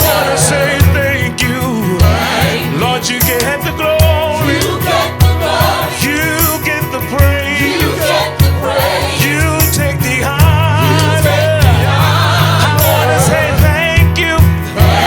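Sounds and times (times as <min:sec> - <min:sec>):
gospel band playing: 0:00.0 - 0:15.0
singers with vibrato: 0:00.0 - 0:15.0.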